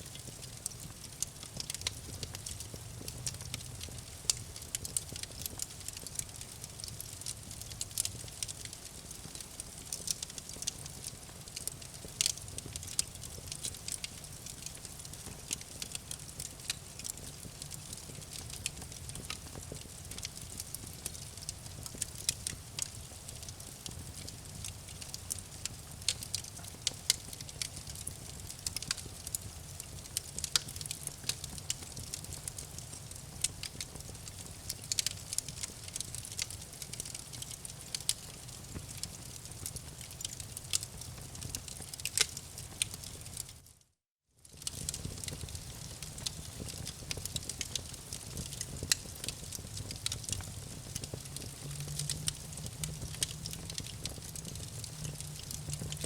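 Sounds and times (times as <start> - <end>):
low rumble of flames: 0.0 - 43.6, 44.4 - 56.0
burning wood crackling: 0.1 - 43.6, 44.5 - 56.0.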